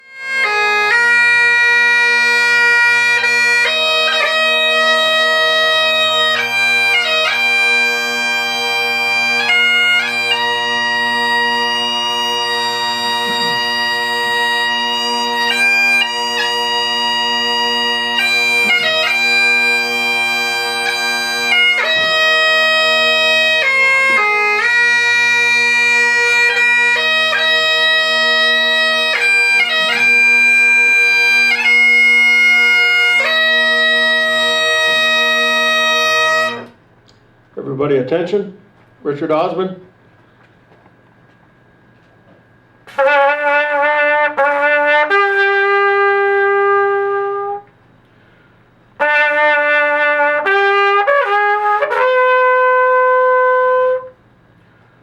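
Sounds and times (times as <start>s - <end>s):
bagpipe playing slow tune: 0.0s - 36.8s, 42.7s - 54.6s.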